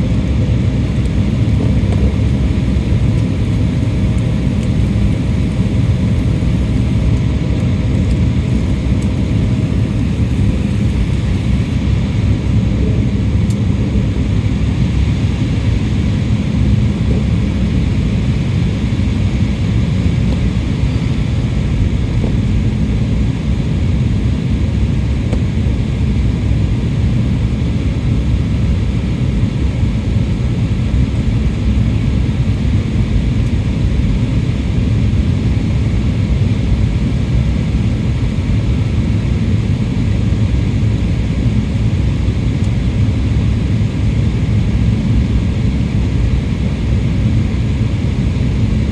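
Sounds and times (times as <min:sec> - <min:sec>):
jet engine roar inside cabin: 0:00.0 - 0:48.9.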